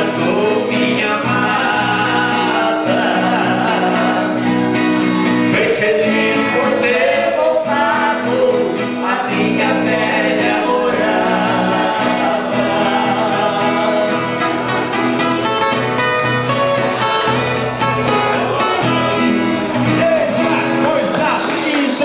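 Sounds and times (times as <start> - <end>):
two acoustic guitars playing: 0.0 - 22.0.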